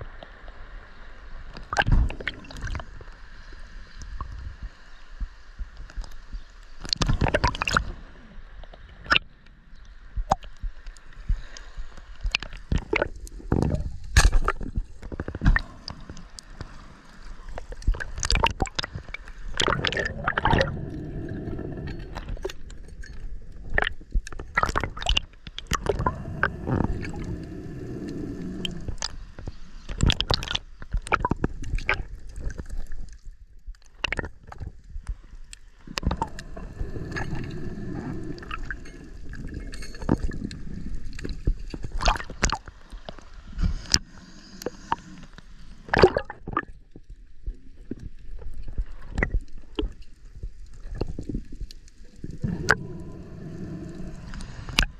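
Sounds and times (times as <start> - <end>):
water gurgling and sloshing: 0.0 - 54.9.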